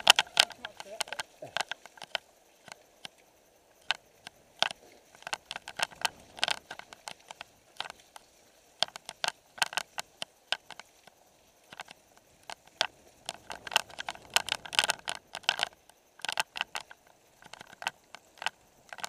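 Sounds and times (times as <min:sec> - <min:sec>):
mountain bike rattling on dirt trail: 0:00.0 - 0:03.1, 0:03.8 - 0:19.0.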